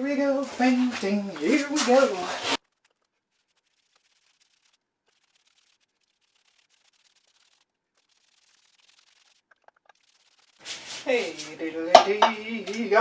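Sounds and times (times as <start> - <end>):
paint brush on concrete wall: 0.3 - 13.0.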